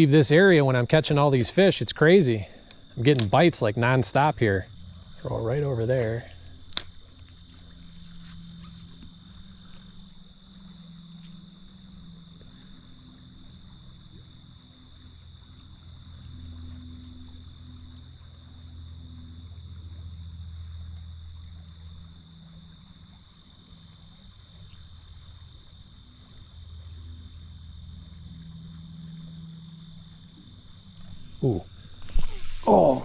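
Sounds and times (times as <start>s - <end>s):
insects trilling: 0.0s - 33.0s.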